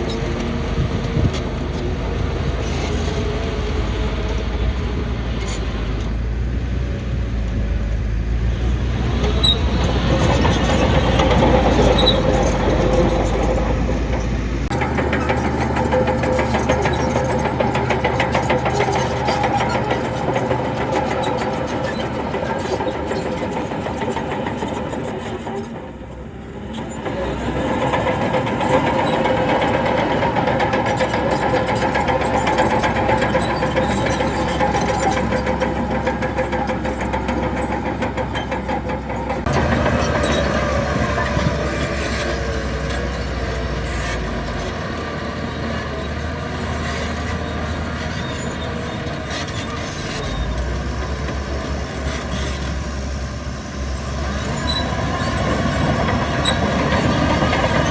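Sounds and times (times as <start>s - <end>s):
heavy diesel machinery engines: 0.0s - 57.9s.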